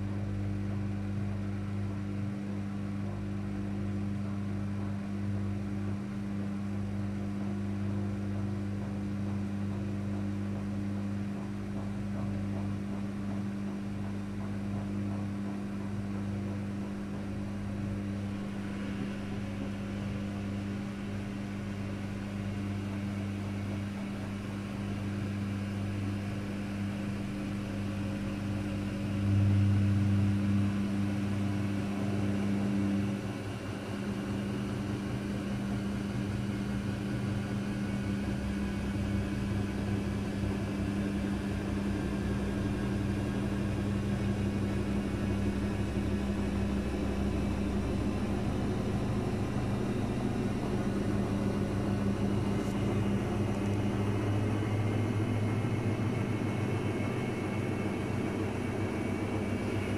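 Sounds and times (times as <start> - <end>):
washing machine electric hum: 0.0 - 59.9.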